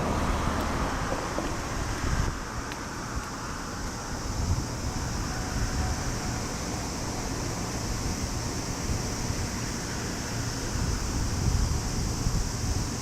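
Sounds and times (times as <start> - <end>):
high outdoor hiss: 0.0 - 13.0
wind buffeting microphone: 0.0 - 13.0.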